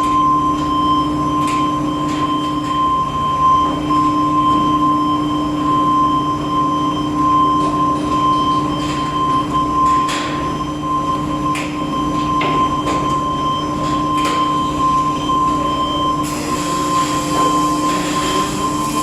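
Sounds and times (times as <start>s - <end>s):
high-pitched machine whine: 0.0s - 19.0s
industrial machinery drone: 0.0s - 19.0s.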